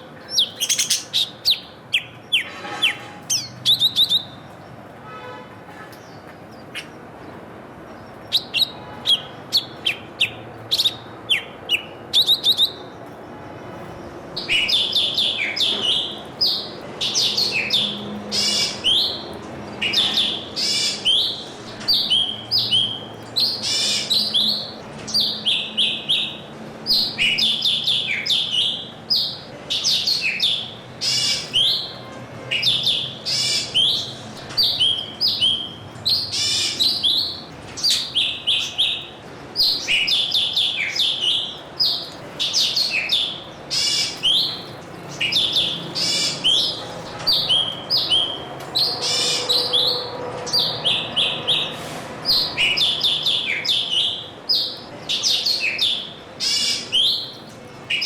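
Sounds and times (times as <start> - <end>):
small birds chirping: 0.0 - 2.5, 5.9 - 49.9, 50.5 - 58.0.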